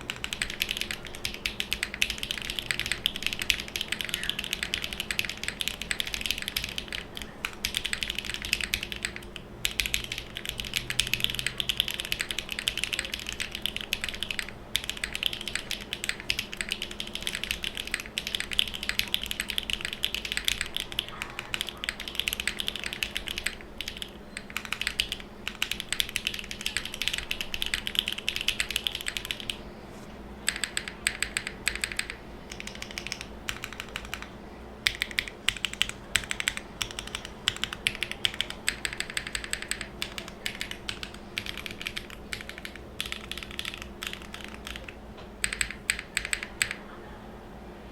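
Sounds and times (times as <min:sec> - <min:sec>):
mechanical keyboard typing: 0:00.0 - 0:29.6, 0:30.4 - 0:46.8.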